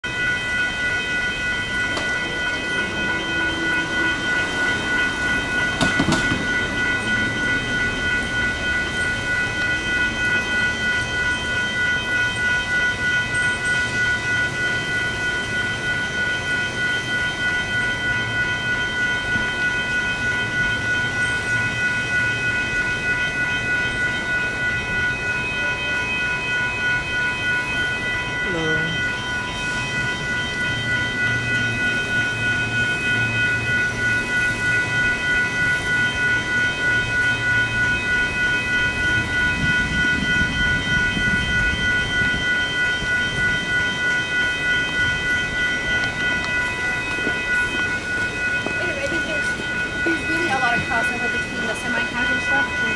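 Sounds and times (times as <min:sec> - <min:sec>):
crossing bells dinging: 0:00.0 - 0:52.9.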